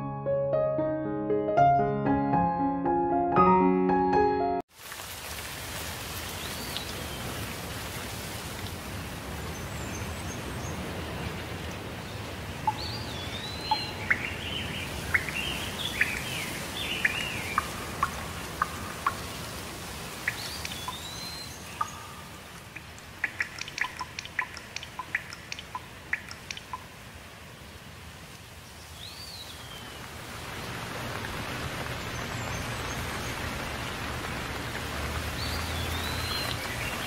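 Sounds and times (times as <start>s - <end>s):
steady rain: 4.7s - 37.0s.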